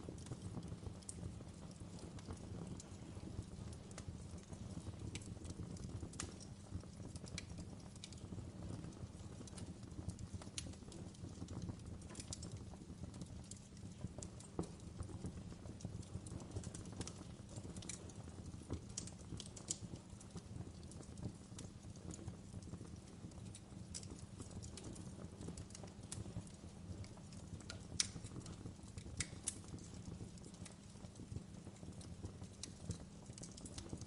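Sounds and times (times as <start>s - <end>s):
wood fire crackling: 0.0s - 34.0s
sharp pops and snaps: 3.9s - 8.9s, 9.5s - 34.0s.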